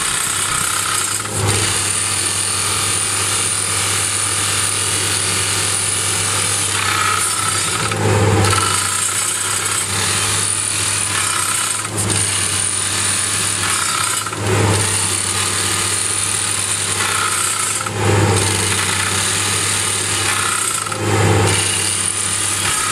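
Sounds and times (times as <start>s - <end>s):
drill rig engine running: 0.0s - 22.9s
hydraulic rock drill hammering: 0.0s - 22.9s.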